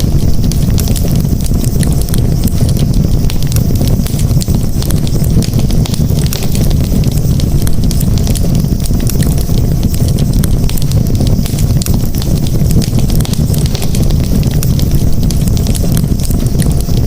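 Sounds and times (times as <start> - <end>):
campfire crackling: 0.0 - 17.0
low fire rumble: 0.0 - 17.0.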